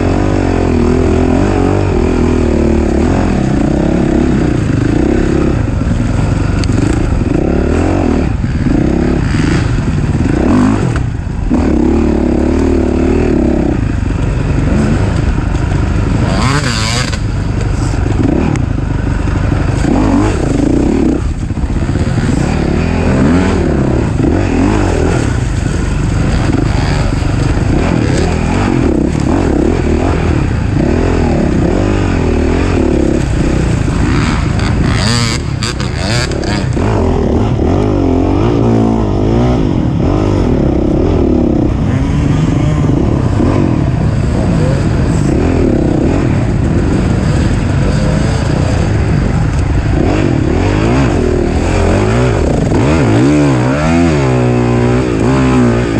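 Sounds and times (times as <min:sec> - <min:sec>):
racing engine revving: 0:00.0 - 0:55.9.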